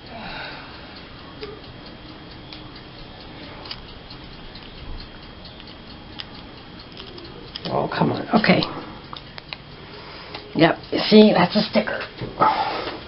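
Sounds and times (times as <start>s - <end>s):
faint even ticking: 0.0s - 12.2s.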